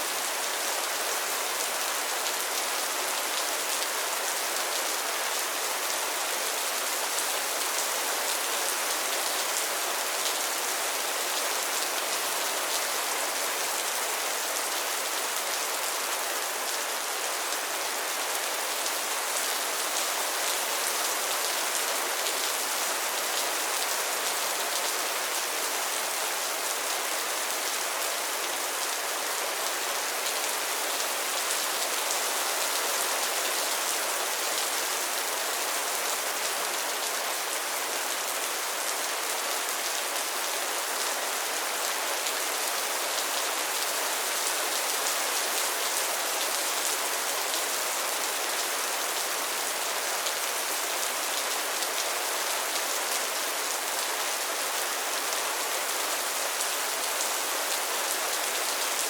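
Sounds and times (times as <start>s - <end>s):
rain falling on pond water: 0.0s - 59.0s.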